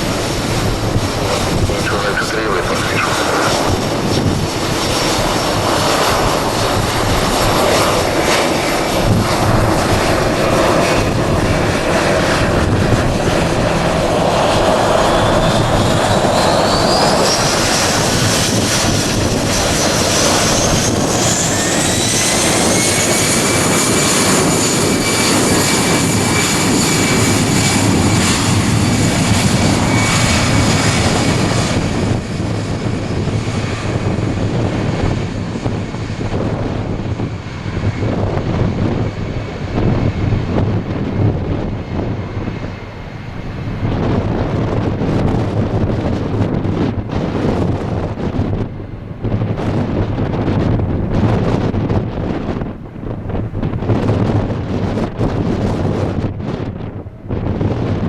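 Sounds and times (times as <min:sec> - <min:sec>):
jet engine whine rising: 0:00.0 - 0:58.0
jet engines running: 0:00.0 - 0:58.0.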